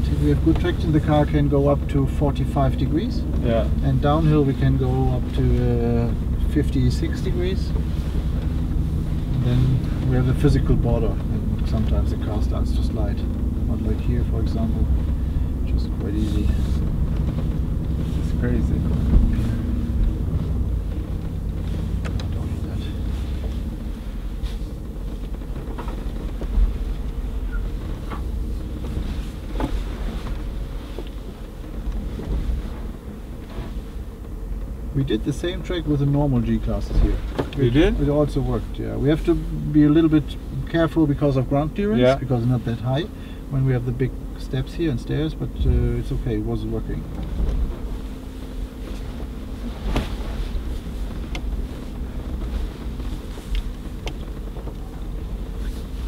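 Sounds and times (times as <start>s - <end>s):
engine running inside cabin: 0.0s - 56.0s.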